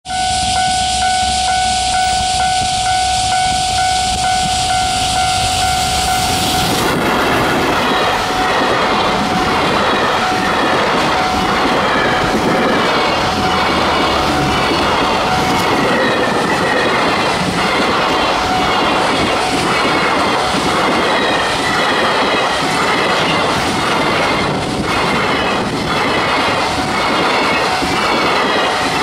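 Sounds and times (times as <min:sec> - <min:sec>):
level crossing alarm ringing: 0:00.0 - 0:29.0
electric locomotive passing: 0:00.1 - 0:29.0.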